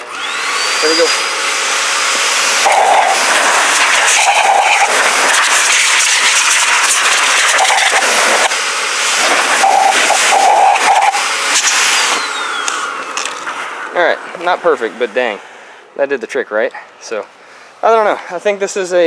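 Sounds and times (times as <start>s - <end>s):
blower dryer air rushing: 0.0s - 16.0s
hum in airflow: 0.0s - 17.8s.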